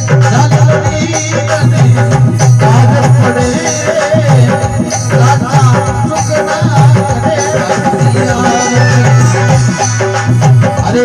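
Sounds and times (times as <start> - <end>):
hand drum beat: 0.0 - 11.0
sustained melody line: 0.0 - 11.0.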